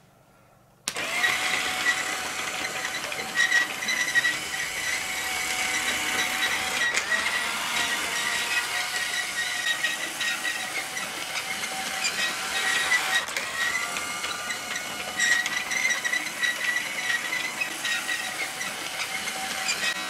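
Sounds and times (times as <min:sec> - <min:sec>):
toy train motor whine: 0:00.9 - 0:20.0.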